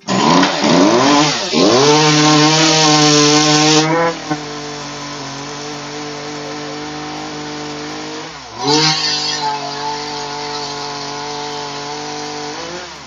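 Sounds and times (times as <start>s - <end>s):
small chainsaw running: 0.0s - 13.0s.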